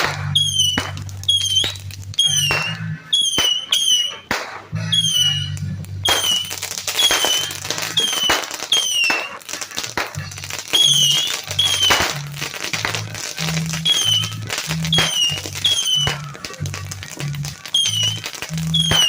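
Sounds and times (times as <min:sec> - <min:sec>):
falling whistle tones: 0:00.0 - 0:09.4, 0:10.7 - 0:12.2, 0:13.7 - 0:16.8, 0:17.7 - 0:19.0
fireworks cracking: 0:00.0 - 0:19.0
music with deep bass: 0:00.0 - 0:19.0.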